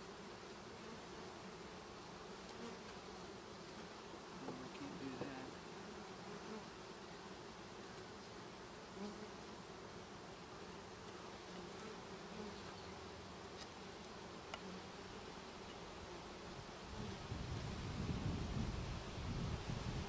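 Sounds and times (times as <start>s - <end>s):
bees humming: 0.0s - 17.3s
single bee buzzing: 0.0s - 20.0s.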